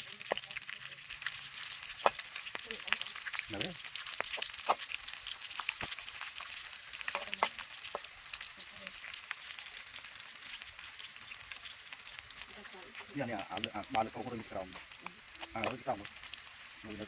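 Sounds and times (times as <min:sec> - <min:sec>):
crickets frying in hot oil: 0:00.0 - 0:17.0
sharp clicks and pops: 0:00.1 - 0:17.0.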